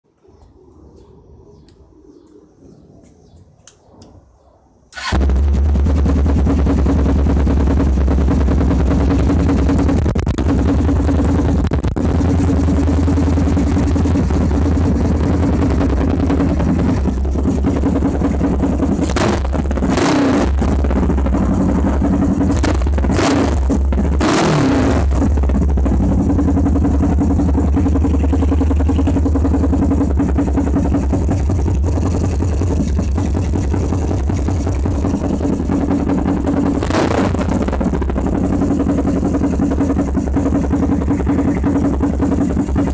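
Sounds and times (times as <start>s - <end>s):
engine revving bursts: 5.0s - 42.9s
motorcycle engine idling: 5.0s - 42.9s.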